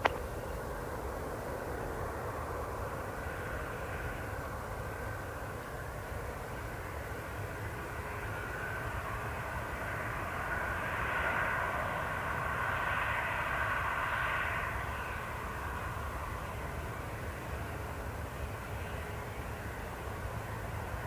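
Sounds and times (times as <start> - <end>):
jet engines whining and rumbling: 0.0 - 21.0.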